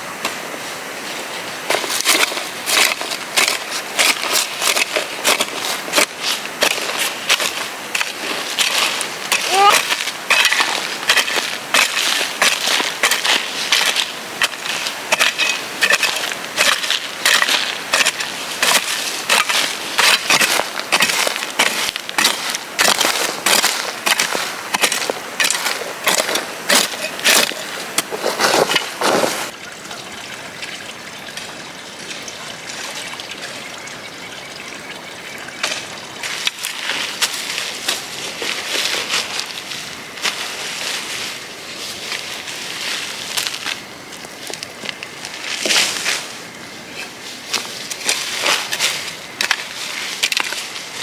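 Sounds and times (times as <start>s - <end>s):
soft steady hiss: 0.0s - 51.0s
dense crunching and crackling: 1.5s - 29.6s, 35.6s - 51.0s.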